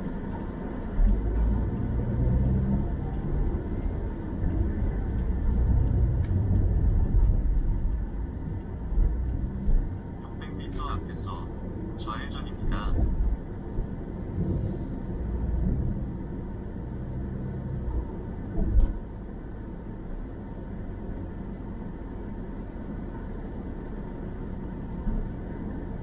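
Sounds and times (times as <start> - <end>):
car tyre and engine rumble: 0.0 - 26.0.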